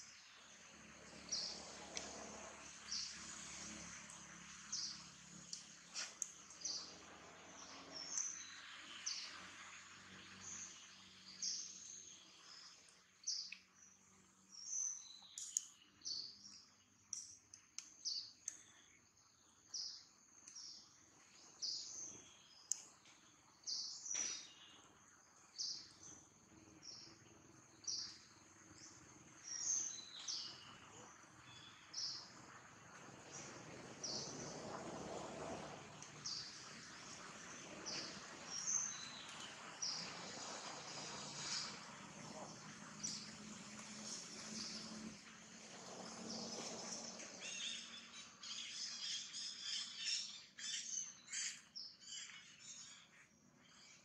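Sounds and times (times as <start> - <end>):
bird chirping: 4.6 - 32.6, 36.0 - 54.0.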